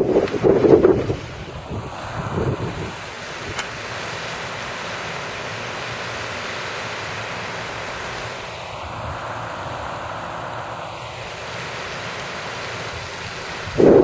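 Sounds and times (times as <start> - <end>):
fountain spraying and splashing: 0.0 - 14.0.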